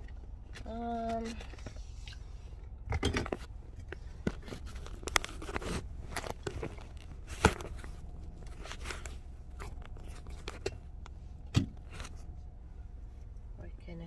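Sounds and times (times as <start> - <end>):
car engine idling hum: 0.0 - 14.0
rustling and scraping in car: 0.0 - 14.0.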